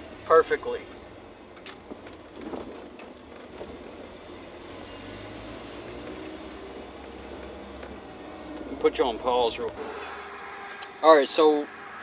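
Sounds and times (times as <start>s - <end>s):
drivetrain and road hum: 0.0s - 12.0s.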